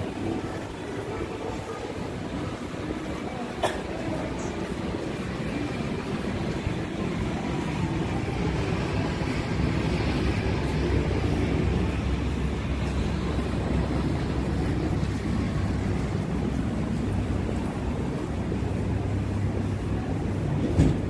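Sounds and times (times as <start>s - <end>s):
passing vehicles rumbling: 0.0s - 21.0s.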